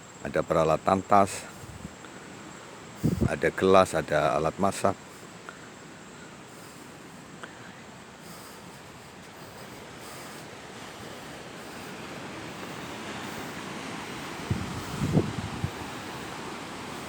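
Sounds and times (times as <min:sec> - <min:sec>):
sea surf washing on shore: 0:00.0 - 0:17.0.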